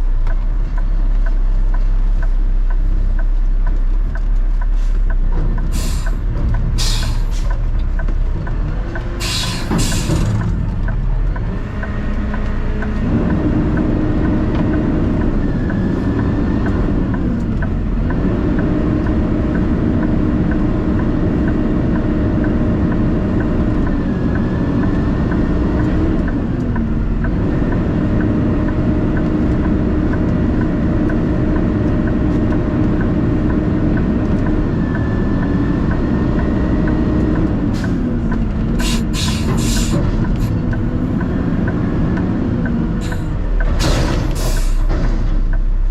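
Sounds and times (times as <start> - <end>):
heavy vehicle engine running: 0.0 - 45.9
light ticking: 0.1 - 43.7.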